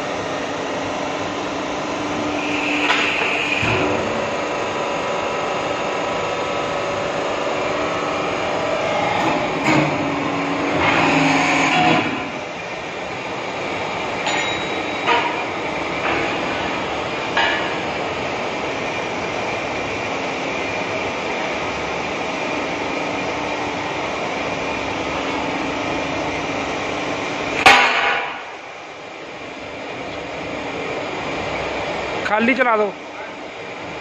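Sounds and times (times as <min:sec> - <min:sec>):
hydraulic pump motor humming: 0:00.0 - 0:28.9.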